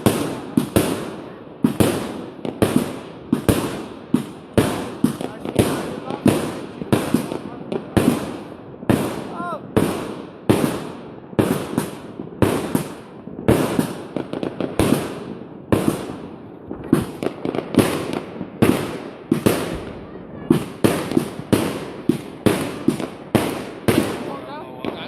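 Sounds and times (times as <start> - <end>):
firework bangs echoing: 0.0 - 25.0.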